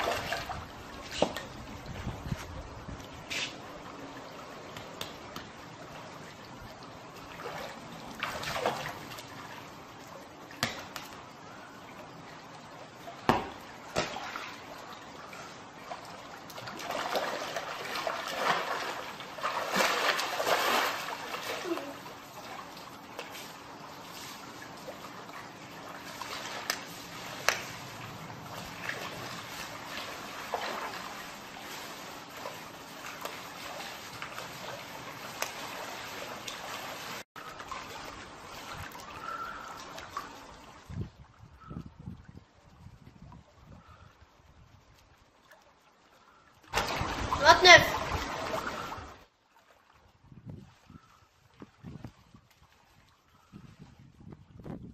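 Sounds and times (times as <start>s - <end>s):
water splashing in a pool: 0.0s - 54.9s.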